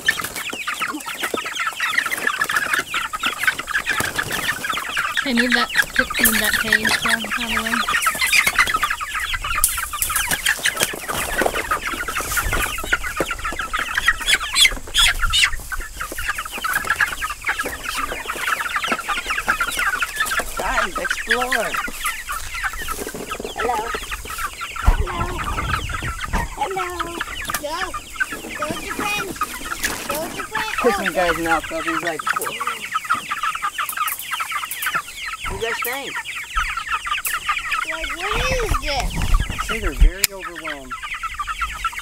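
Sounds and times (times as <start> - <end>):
chicks cheeping and clucking: 0.0 - 42.0.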